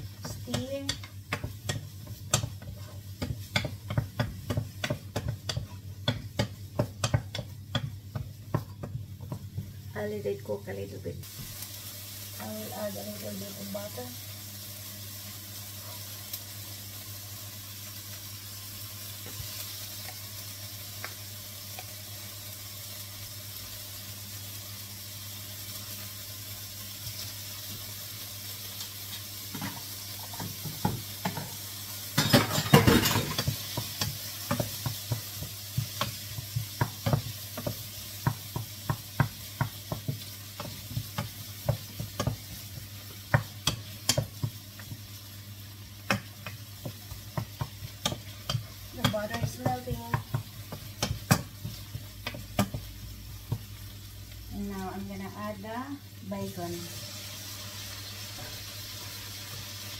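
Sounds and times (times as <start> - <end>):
food sizzling in a pot: 0.0 - 59.9.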